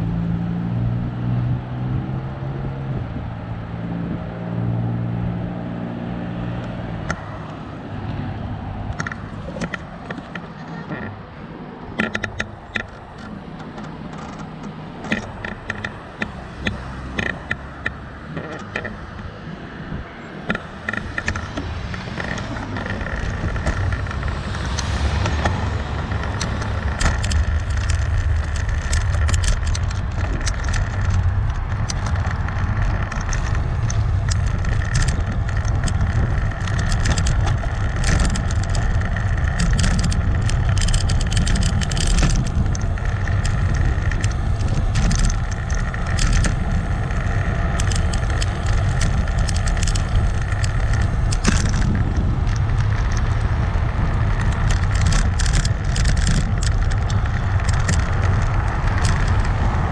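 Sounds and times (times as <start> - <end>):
wind rushing over microphone: 0.0 - 59.9
sharp clicks and rattles: 6.3 - 8.2, 8.9 - 59.9.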